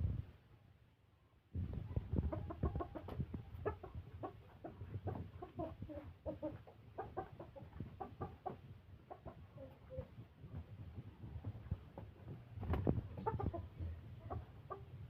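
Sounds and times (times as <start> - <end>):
chickens clucking: 1.7 - 15.0.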